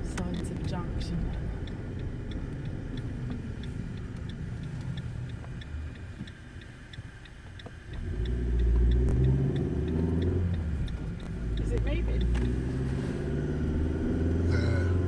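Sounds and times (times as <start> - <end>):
car engine and road rumble: 0.0 - 15.0
turn signal ticking: 0.0 - 15.0.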